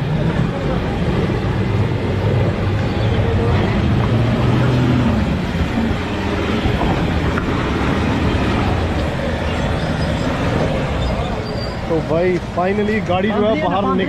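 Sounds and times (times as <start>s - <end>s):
vehicle engine running hard: 0.0s - 14.0s.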